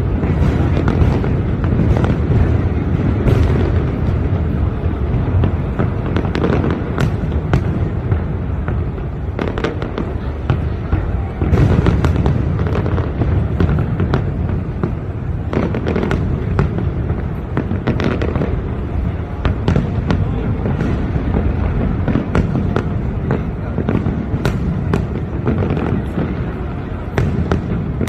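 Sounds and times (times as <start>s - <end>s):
fireworks booming rumble: 0.0s - 28.0s
fireworks sharp cracks: 0.0s - 28.0s.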